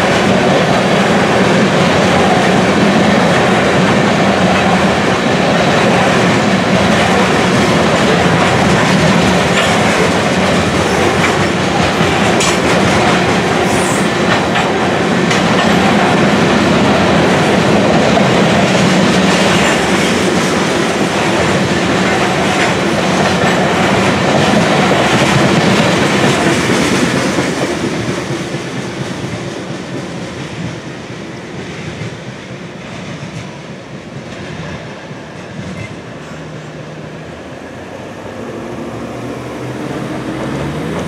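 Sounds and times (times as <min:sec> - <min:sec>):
train wheels clattering on rails: 0:00.0 - 0:36.6.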